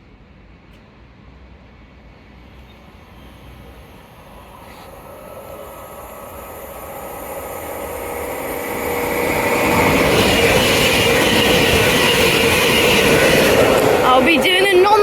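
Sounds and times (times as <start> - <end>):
passenger train passing: 0.0 - 15.0
steady hum: 2.8 - 15.0.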